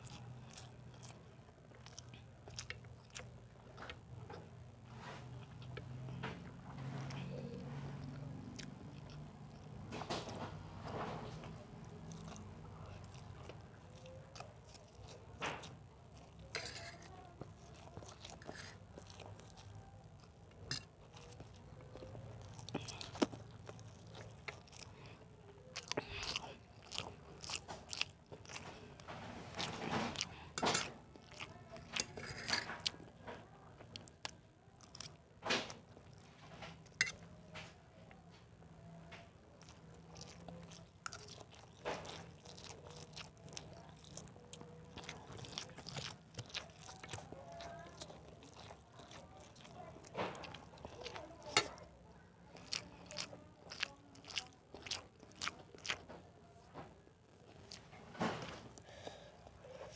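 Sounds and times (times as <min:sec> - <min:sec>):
person chewing: 0:00.0 - 0:33.1, 0:33.9 - 0:37.4, 0:38.6 - 0:59.9.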